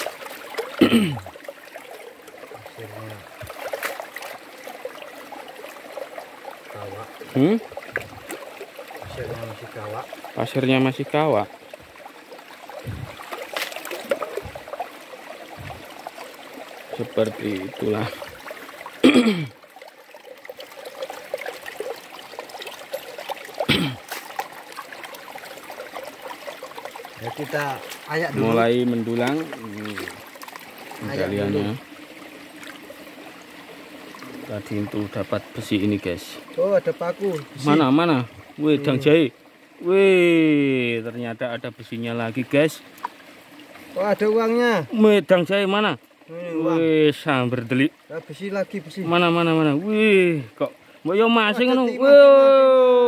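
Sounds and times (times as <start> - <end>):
water running over rocks: 0.0 - 53.0.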